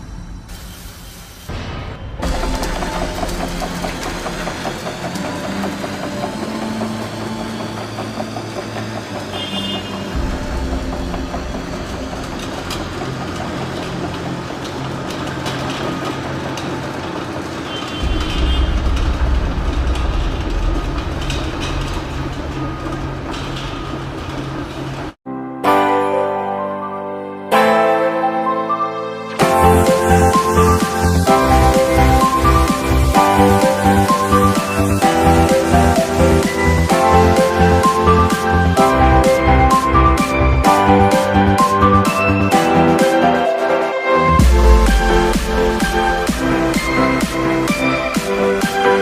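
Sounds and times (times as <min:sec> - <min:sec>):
diesel engine rumbling: 0:02.2 - 0:25.2, 0:29.4 - 0:49.0.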